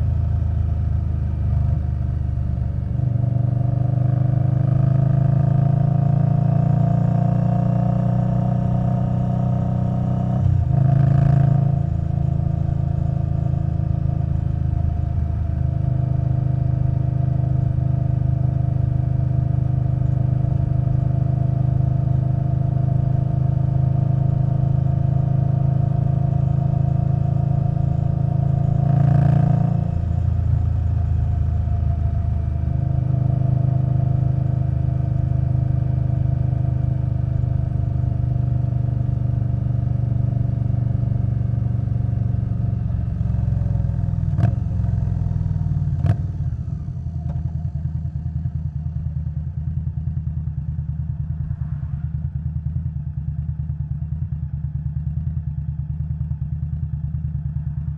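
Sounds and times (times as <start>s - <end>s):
motorcycle engine while riding: 0.0s - 57.9s.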